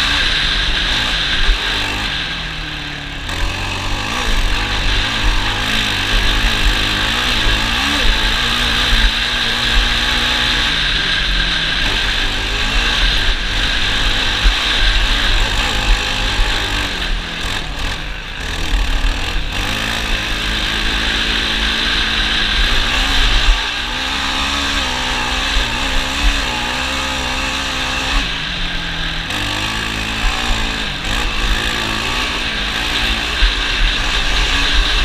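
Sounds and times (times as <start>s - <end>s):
atv engine running: 0.0s - 35.0s
steady rushing noise: 0.0s - 35.0s.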